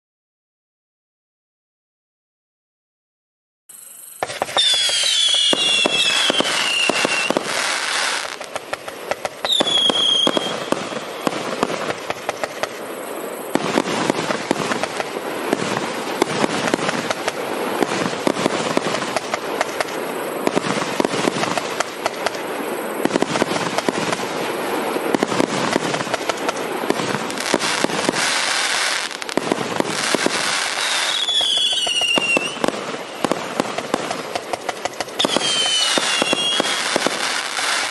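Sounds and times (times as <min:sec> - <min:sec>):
falling firework whistles: 0:03.7 - 0:37.9
firework bangs and crackling: 0:04.2 - 0:37.9.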